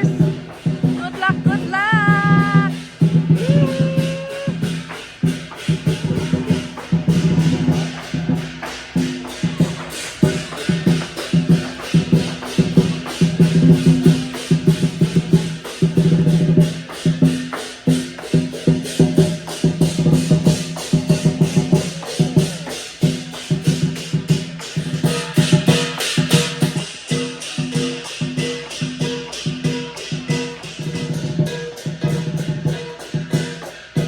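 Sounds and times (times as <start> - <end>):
music with percussive beat: 0.0 - 34.0.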